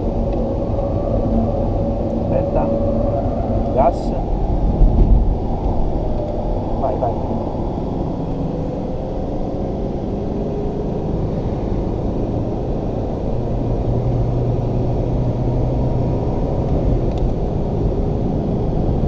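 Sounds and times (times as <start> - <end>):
car engine drone: 0.0 - 19.0
road noise inside car: 0.0 - 19.0.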